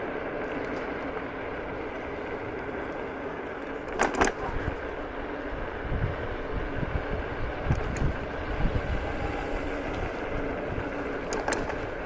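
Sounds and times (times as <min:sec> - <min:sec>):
tyres rolling over gravel: 0:00.0 - 0:12.0.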